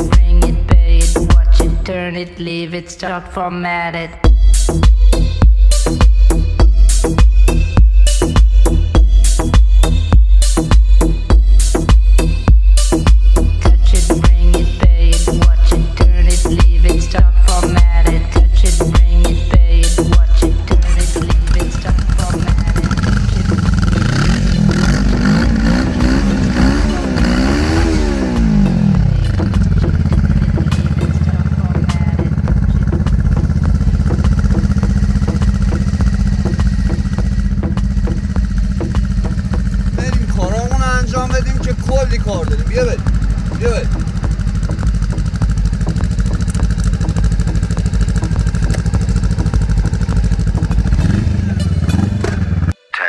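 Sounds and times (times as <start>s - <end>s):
motorcycle engine revving: 0.0s - 1.9s, 4.2s - 52.8s.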